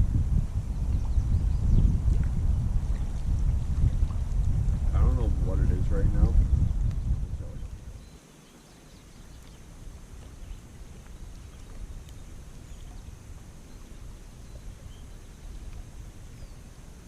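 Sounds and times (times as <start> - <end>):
wind rumble on microphone: 0.0 - 8.2, 8.9 - 17.0.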